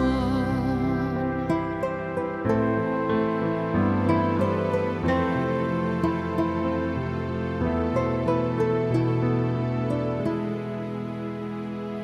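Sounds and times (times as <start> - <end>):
slow sad instrumental music: 0.0 - 12.0.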